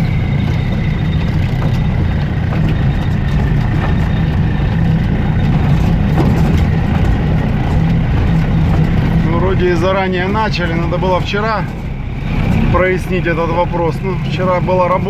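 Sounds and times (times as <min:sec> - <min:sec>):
engine rumbling from inside cab: 0:00.0 - 0:15.0
light rattles: 0:00.0 - 0:15.0.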